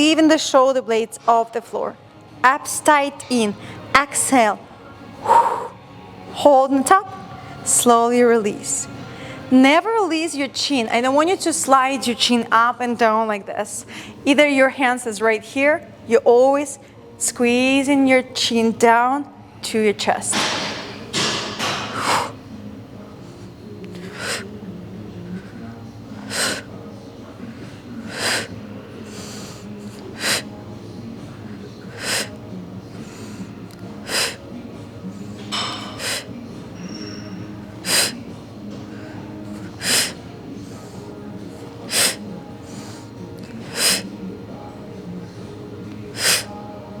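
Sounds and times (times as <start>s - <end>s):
quiet background music: 0.0s - 47.0s.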